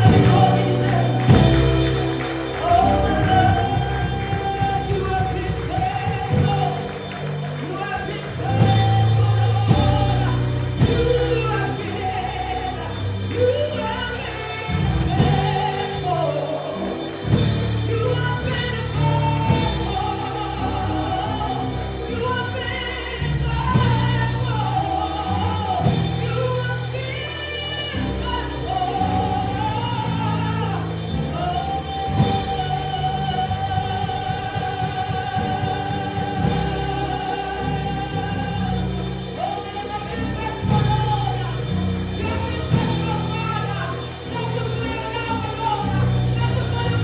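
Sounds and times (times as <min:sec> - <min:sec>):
gospel singing with band: 0:00.0 - 0:47.0.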